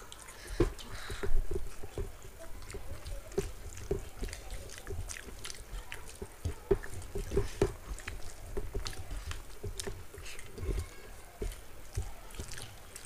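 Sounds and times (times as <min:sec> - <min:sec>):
fingers mixing food on plates: 0:00.0 - 0:13.0
wet chewing and mouth smacks: 0:00.0 - 0:13.0.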